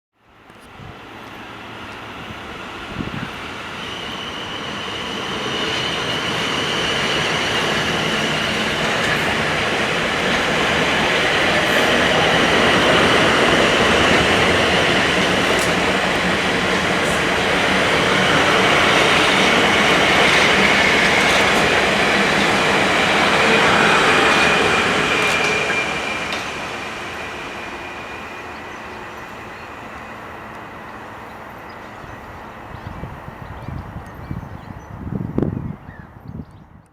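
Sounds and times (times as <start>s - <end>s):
train passing: 0.2s - 35.8s.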